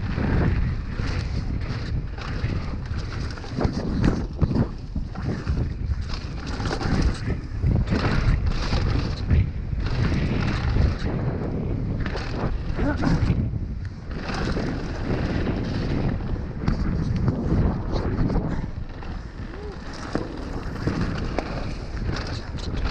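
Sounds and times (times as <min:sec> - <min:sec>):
bike tyres rumbling on gravel: 0:00.0 - 0:22.9
wind buffeting microphone: 0:00.0 - 0:22.9.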